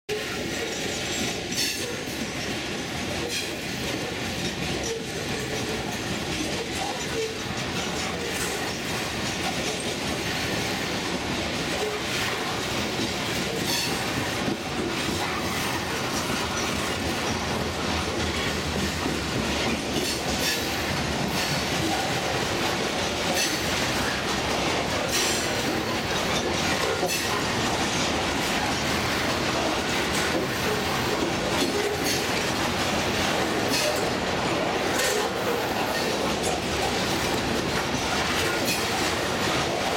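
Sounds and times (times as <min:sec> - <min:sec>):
sharp clicks and clacks: 0:00.1 - 0:39.9
train wheels rumbling on rails: 0:00.1 - 0:39.9.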